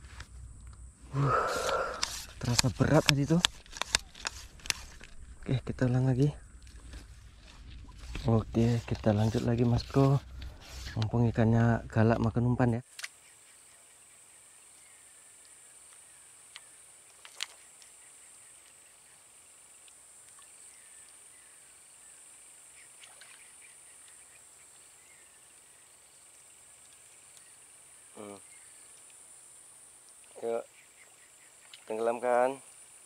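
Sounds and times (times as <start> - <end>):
high insect hum: 0.0 - 33.0.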